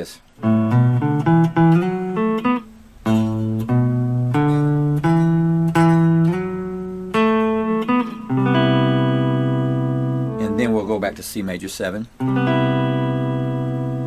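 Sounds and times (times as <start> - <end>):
guitar plucked notes: 0.3 - 14.0.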